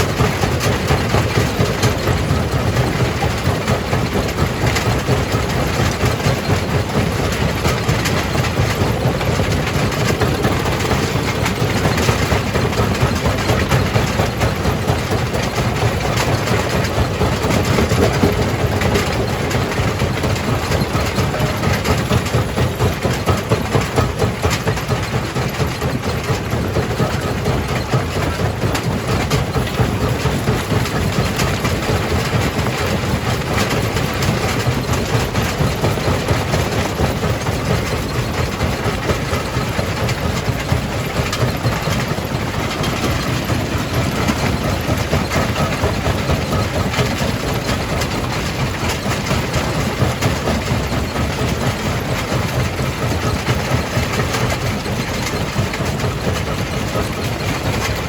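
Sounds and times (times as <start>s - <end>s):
jaw crusher running: 0.0s - 58.0s.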